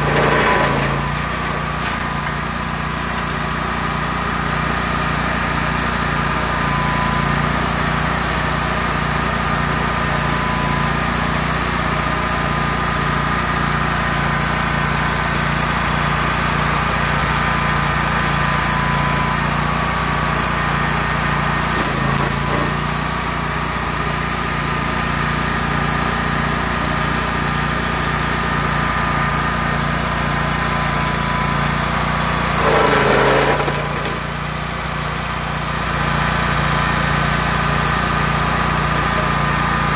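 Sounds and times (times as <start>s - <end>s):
stump grinder running: 0.0s - 39.9s.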